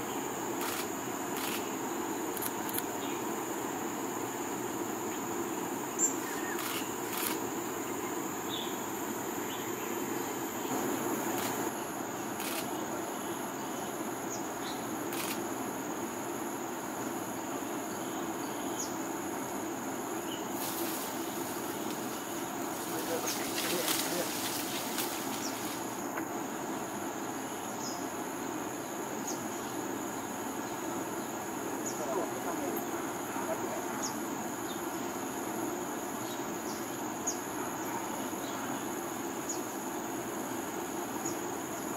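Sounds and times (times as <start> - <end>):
high-pitched insect drone: 0.0 - 41.9.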